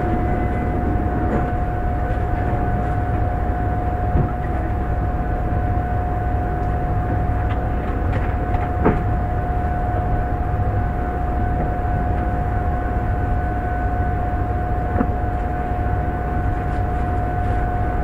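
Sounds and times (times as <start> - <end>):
standing train humming: 0.0 - 18.0
steady whine: 0.0 - 18.0.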